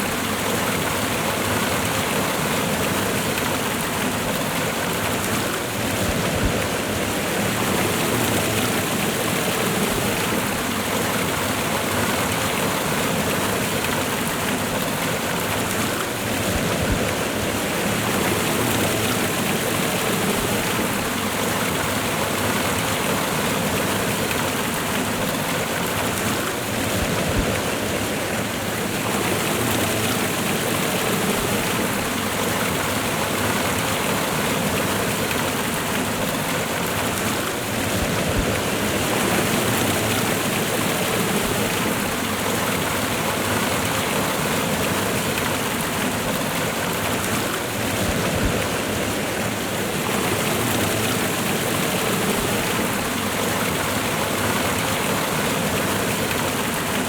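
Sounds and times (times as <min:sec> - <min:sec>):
waterfall and river rushing: 0:00.0 - 0:57.0.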